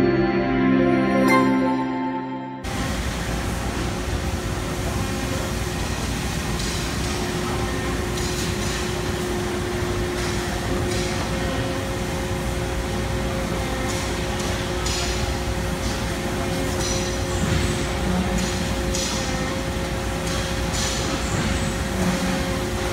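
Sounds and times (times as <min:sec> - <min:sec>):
machine hum: 0:02.5 - 0:22.9.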